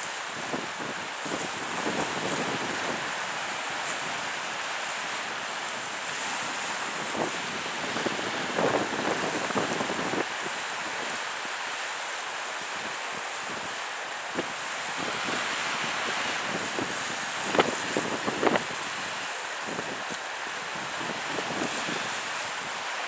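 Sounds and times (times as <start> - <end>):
wind gusts on microphone: 0.0 - 11.8, 12.6 - 23.0.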